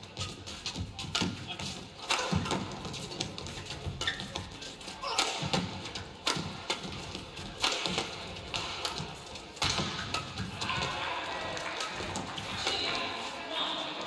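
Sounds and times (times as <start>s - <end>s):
rackets hitting shuttlecock: 0.1s - 14.0s.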